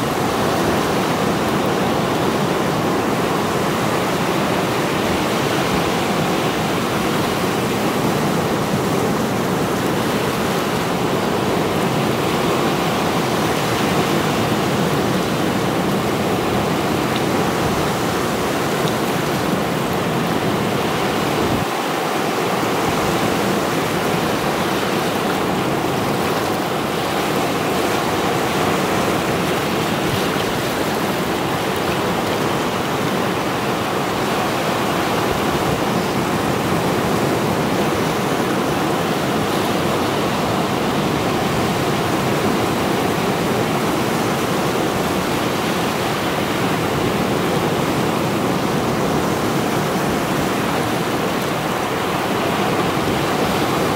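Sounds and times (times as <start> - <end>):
waves breaking on rocky shore: 0.0 - 53.9.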